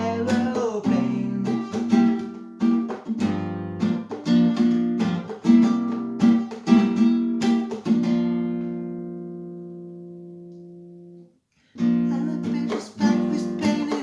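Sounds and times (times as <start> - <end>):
acoustic guitar strumming chords: 0.0 - 11.2, 11.8 - 14.0.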